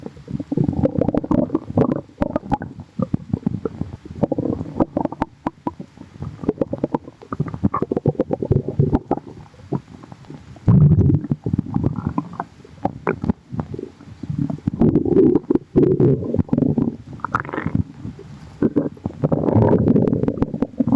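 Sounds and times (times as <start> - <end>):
stomach growling and gurgling: 0.0 - 20.9.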